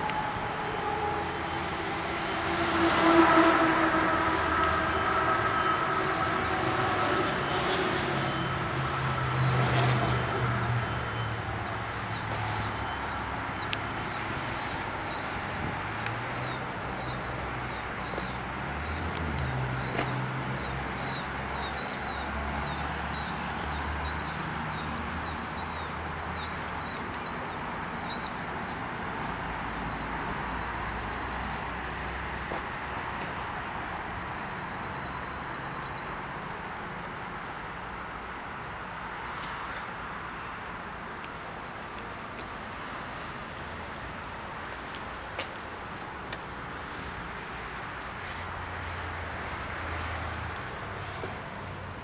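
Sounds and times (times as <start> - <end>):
traffic passing: 0.0 - 52.0.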